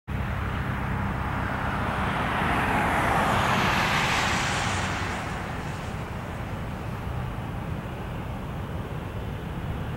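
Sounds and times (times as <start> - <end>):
jet engines roaring: 0.1 - 9.9.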